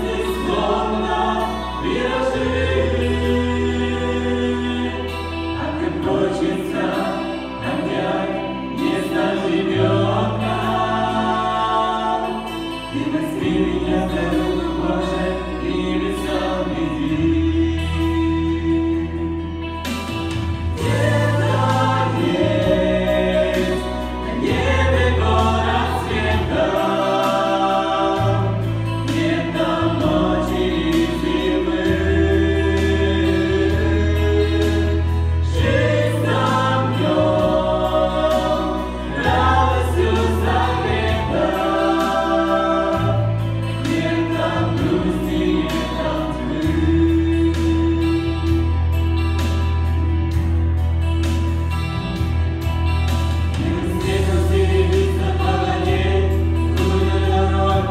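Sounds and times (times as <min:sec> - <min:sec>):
church choir singing: 0:00.0 - 0:57.9
held bass notes: 0:00.0 - 0:57.9.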